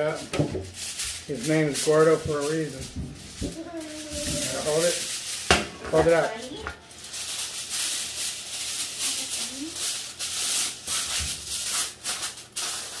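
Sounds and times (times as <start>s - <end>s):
aluminum foil crinkling: 0.0s - 13.0s.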